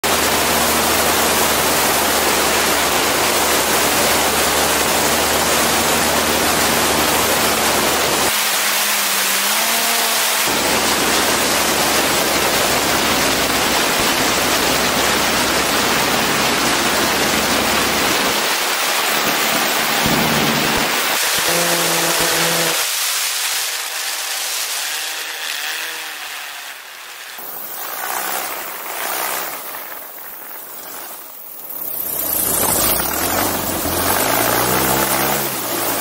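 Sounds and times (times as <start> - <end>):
engine and propeller drone: 0.0 - 36.0.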